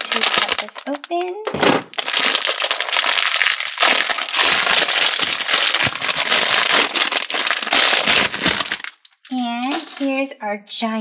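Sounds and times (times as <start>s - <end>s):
crinkly wrapping rustling: 0.0s - 10.2s.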